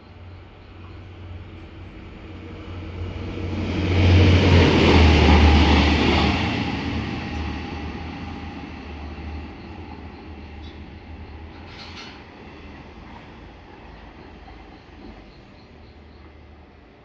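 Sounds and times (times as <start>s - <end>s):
low train engine drone: 0.0s - 17.0s.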